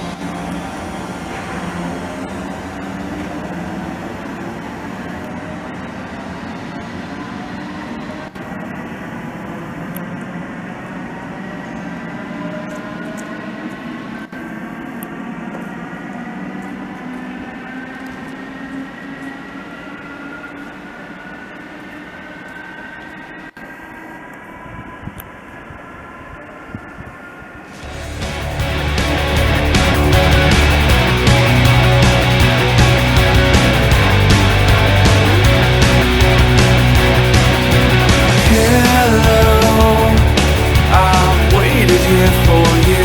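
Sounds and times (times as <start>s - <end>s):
train traction motors whining: 0.0s - 43.0s.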